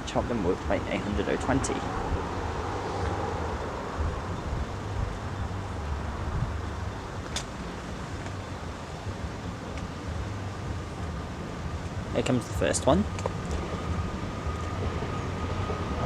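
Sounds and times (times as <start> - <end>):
road traffic rumble: 0.0 - 16.0
wind on microphone: 0.0 - 16.0.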